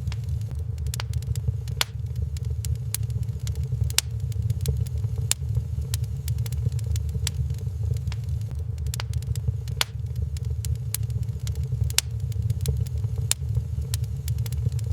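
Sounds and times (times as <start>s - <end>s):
low rumble: 0.0s - 14.9s
wood fire crackling and popping: 0.0s - 14.9s.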